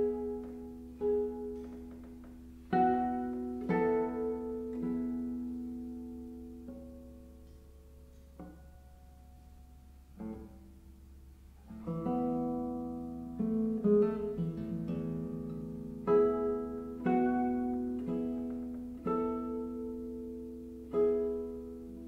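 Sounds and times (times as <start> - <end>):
classical guitar playing: 0.0 - 22.0.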